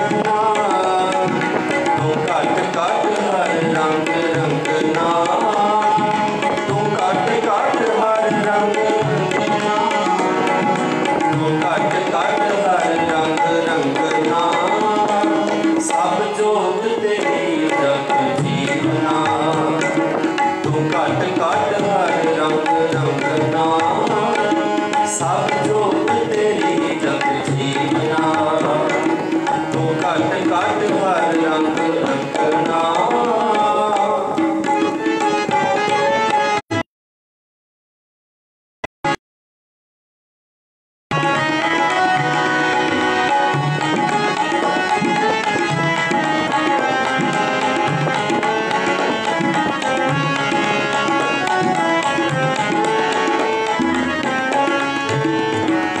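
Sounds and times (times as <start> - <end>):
tabla rhythm: 0.0 - 36.8, 41.1 - 56.0
harmonium melody: 0.0 - 36.9, 41.1 - 56.0.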